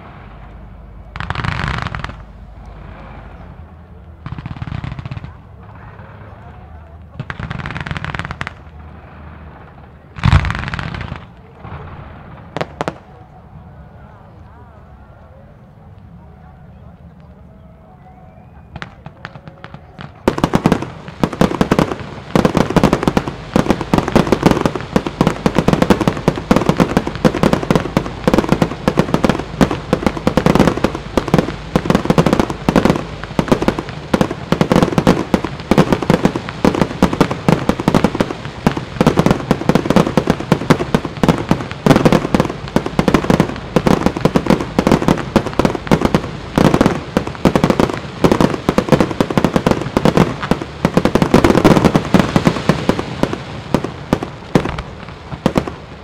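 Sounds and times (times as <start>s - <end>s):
fireworks bursting: 0.0s - 14.3s, 18.6s - 56.0s.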